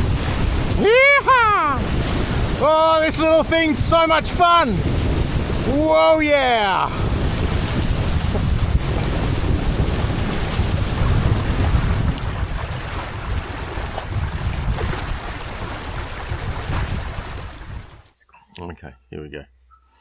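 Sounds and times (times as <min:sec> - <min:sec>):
water rushing along hulls: 0:00.0 - 0:18.2
wind buffeting microphone: 0:00.0 - 0:18.2.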